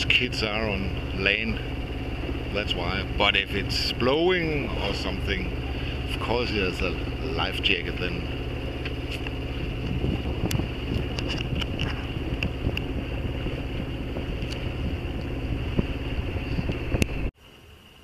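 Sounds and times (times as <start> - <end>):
wind on microphone: 0.0 - 17.3
boat engine running: 0.0 - 17.4.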